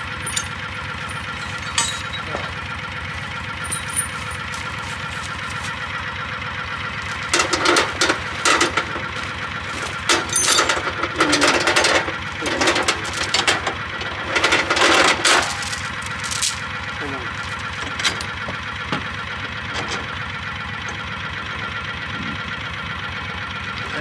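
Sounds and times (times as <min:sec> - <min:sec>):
metallic rattling and clanking: 0:00.0 - 0:22.0
engine idling: 0:00.0 - 0:24.0.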